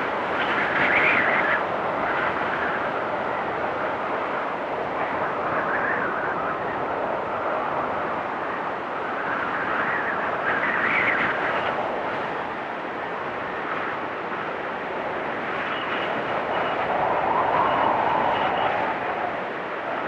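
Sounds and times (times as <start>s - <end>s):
stormy wind through forest: 0.0s - 20.0s.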